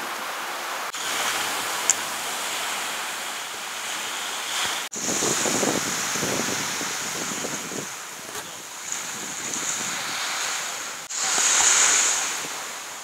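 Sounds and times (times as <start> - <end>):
small waves washing on sand: 0.0 - 13.0
wind on microphone: 0.8 - 13.0.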